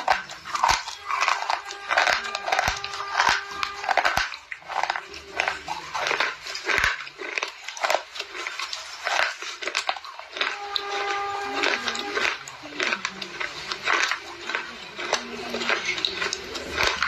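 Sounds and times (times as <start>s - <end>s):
crunching chewing: 0.0s - 17.0s.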